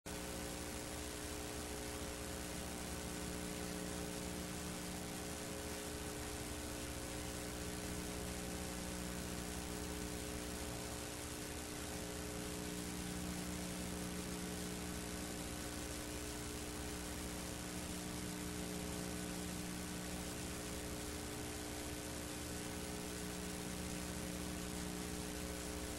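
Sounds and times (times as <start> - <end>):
low electrical hum: 0.1 - 25.9
background hiss: 0.5 - 25.9.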